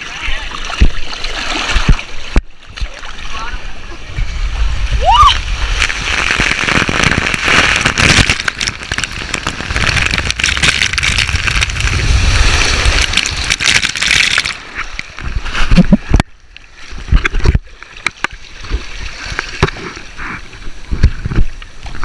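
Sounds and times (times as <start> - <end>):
water rushing and splashing: 0.0 - 22.0.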